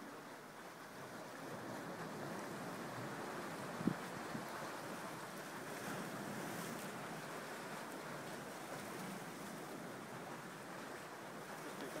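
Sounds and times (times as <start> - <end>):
small waves washing against rocks: 0.9 - 12.0.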